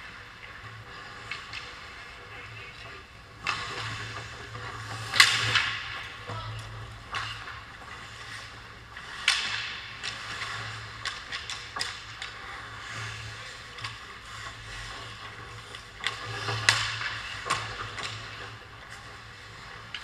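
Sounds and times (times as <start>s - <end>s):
hockey sticks and puck clacking: 0.0s - 20.0s
skate blades scraping ice: 0.0s - 20.0s.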